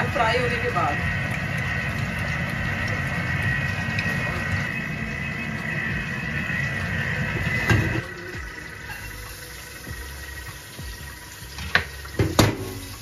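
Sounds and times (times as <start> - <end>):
even hum: 0.0 - 13.0
motor running with low rumble: 0.0 - 13.0.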